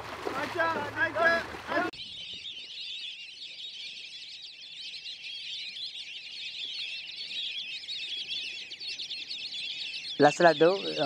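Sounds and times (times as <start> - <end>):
chorus of birds chirping: 0.4 - 11.0.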